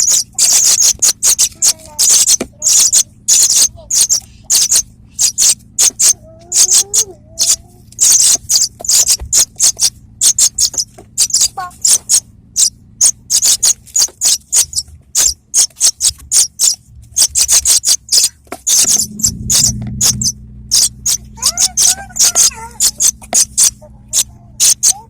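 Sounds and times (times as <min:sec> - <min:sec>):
pipit chirping: 0:00.0 - 0:25.0.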